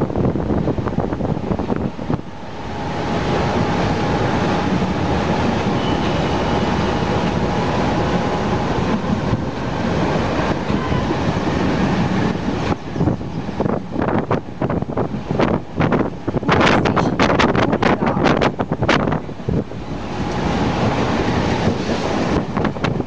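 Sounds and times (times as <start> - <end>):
train wheel rumble: 0.0 - 23.0.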